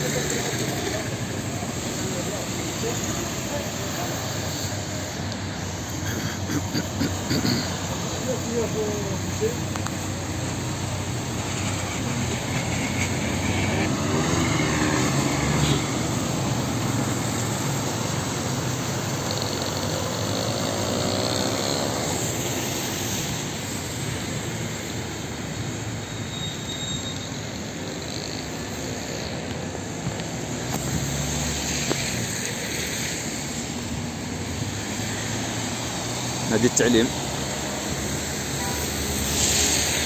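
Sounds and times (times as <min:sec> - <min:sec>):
vehicles driving through water: 0:00.0 - 0:40.0.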